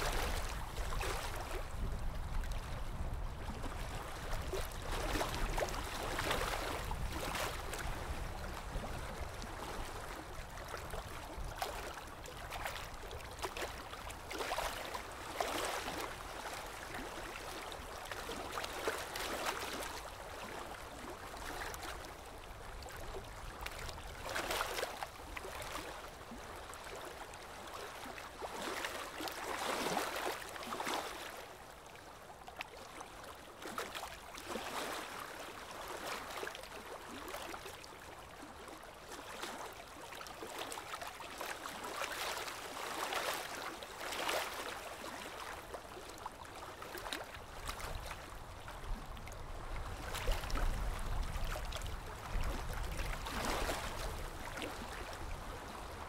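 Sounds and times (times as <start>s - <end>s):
small ocean waves breaking: 0.0s - 56.0s.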